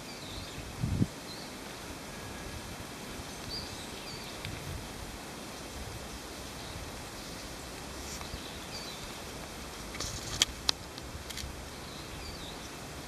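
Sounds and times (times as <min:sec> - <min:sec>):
outdoor background noise: 0:00.0 - 0:13.0
songbird chirping: 0:00.0 - 0:13.0.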